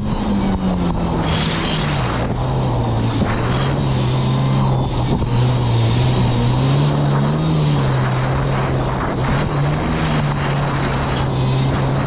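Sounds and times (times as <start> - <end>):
jet ski engine running hard: 0.0 - 12.0
rush of wind and water: 0.0 - 12.0.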